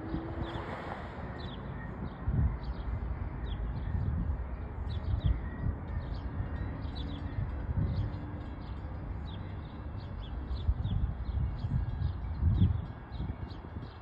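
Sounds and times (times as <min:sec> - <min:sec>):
small birds chirping: 0:01.4 - 0:14.0.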